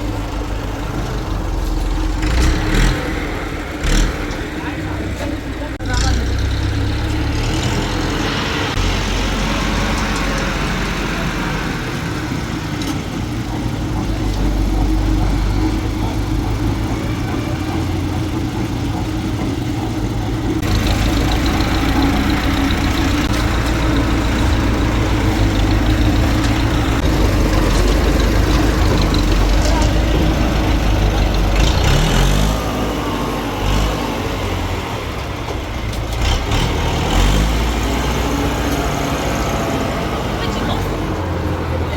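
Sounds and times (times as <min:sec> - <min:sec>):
engine humming: 0:00.0 - 0:41.9.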